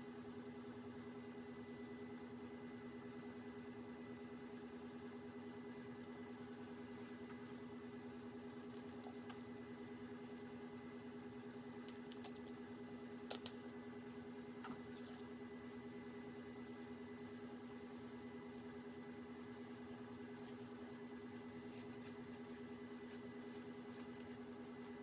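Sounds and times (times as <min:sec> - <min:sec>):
faint fluttering hum: 0:00.1 - 0:25.0.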